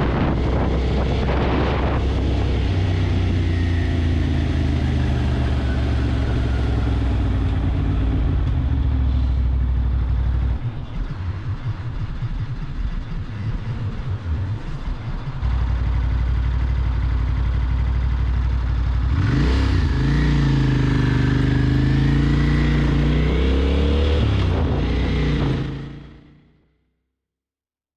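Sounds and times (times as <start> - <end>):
motorcycle engine revving: 0.0 - 26.6.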